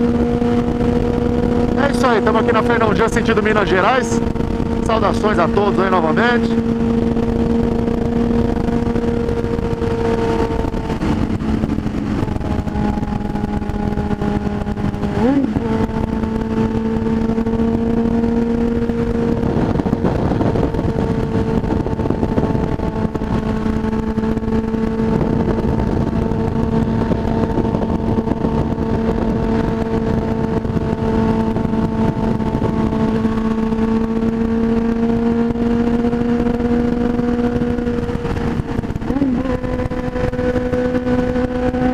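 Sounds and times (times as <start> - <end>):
motorcycle engine cruising: 0.0 - 41.9
wind noise on microphone: 0.0 - 41.9.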